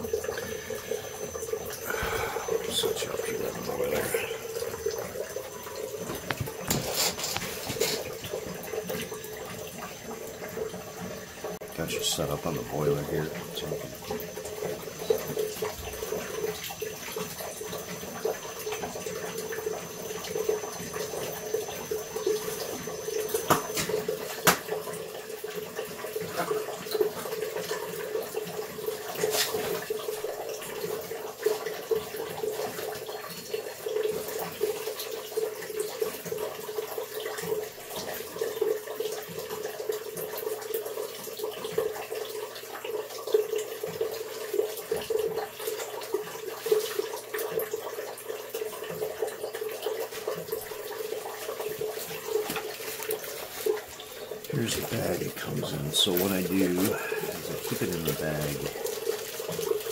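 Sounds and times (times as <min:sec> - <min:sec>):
water running through a hose: 0:00.0 - 0:59.9.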